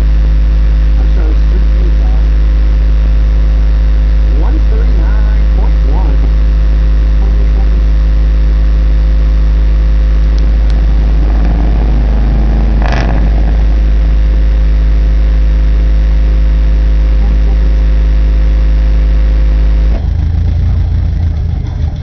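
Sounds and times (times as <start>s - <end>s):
loud deep bass tone: 0.0s - 22.0s
speaker crackle: 0.0s - 22.0s.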